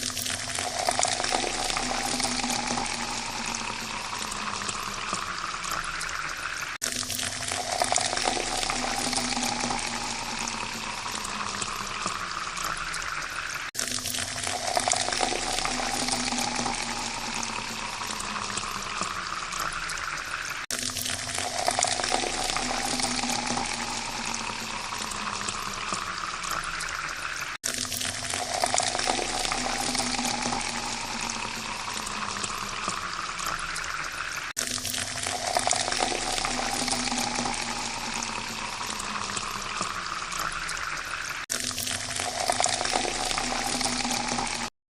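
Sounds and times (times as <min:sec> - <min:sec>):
water pouring into a glass: 0:00.0 - 0:44.7.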